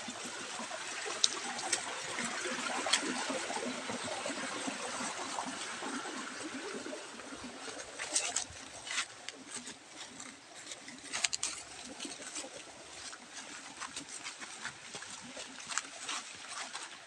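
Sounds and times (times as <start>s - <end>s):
sharp drips and taps: 0.0s - 5.7s, 7.2s - 17.0s
rain pattering in a forest: 0.0s - 17.0s.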